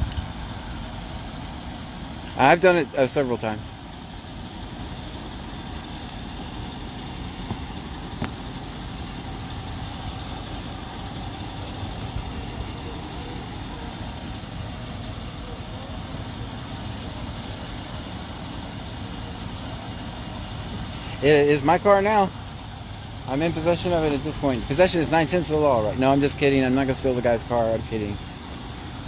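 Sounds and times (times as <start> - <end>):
low rumble of engines: 0.0 - 29.0.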